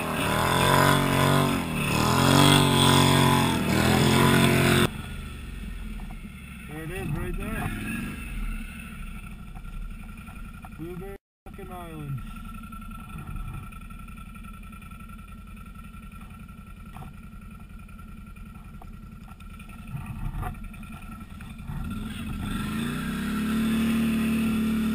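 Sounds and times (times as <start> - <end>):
atv engine idling and revving: 0.0 - 24.9.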